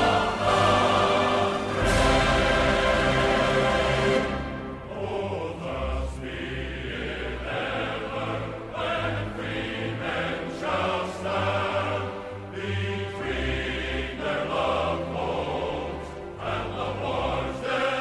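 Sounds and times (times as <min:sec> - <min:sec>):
choir-like voices singing: 0:00.0 - 0:18.0.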